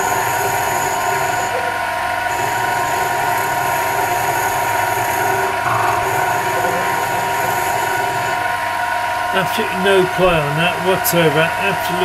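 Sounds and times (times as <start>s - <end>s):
metal lathe running: 0.0s - 12.0s.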